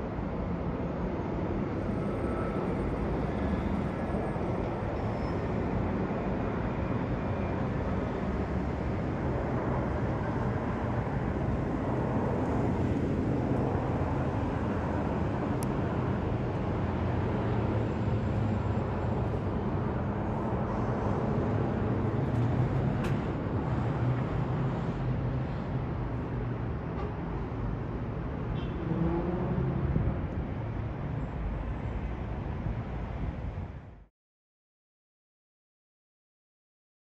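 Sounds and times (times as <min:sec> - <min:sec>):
jet engine rumble overhead: 0:00.0 - 0:28.7, 0:29.7 - 0:34.1.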